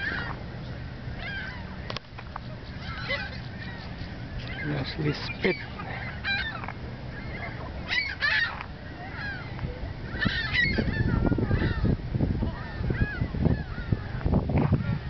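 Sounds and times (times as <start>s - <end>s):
flock of birds calling: 0.0s - 15.0s
wind buffeting microphone: 0.0s - 15.0s.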